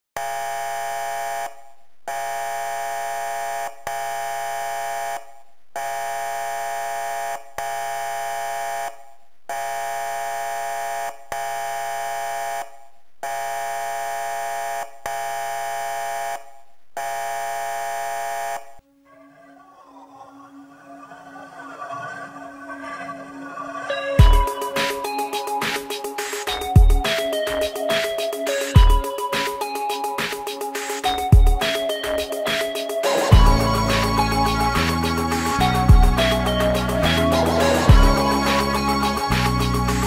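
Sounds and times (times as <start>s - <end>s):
harsh alarm buzzer: 0.2s - 16.4s, 17.0s - 18.7s, 21.0s - 40.0s.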